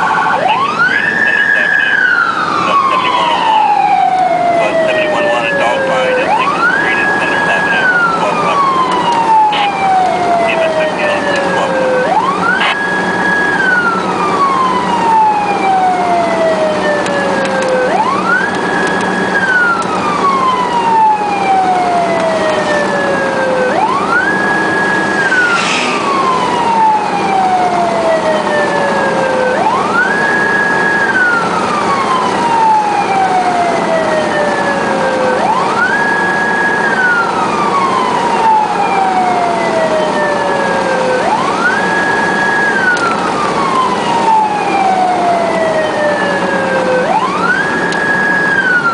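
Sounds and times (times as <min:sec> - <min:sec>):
engine and road noise: 0:00.0 - 0:48.9
siren wailing: 0:00.0 - 0:48.9.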